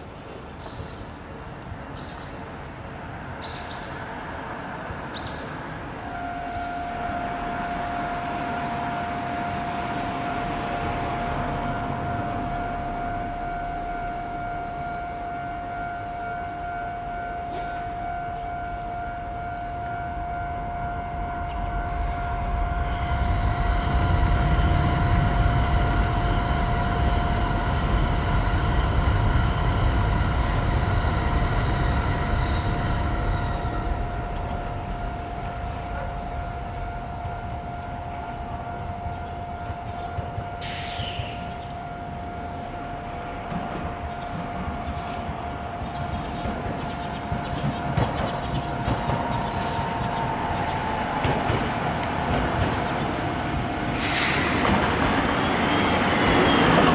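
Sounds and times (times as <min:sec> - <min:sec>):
tram rumble and motor hum: 0:00.0 - 0:56.9
level-crossing warning bell: 0:04.8 - 0:56.9.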